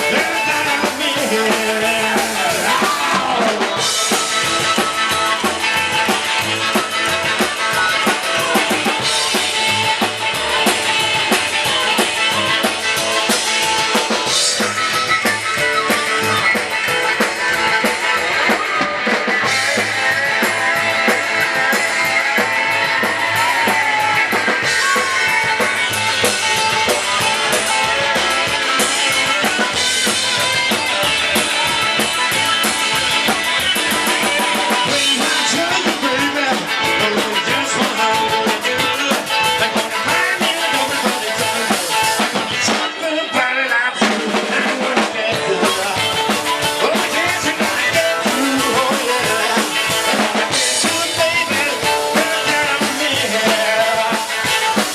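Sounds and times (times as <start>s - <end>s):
drum kit beat: 0.0s - 54.9s
electric guitar: 0.0s - 54.9s
rock and roll band playing: 0.0s - 54.9s.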